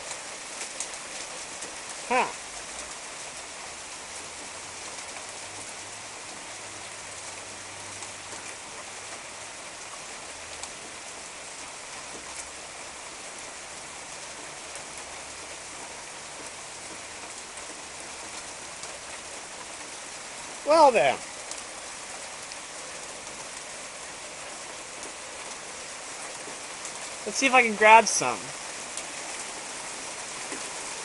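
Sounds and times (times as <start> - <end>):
hail and rain falling: 0.0 - 31.0.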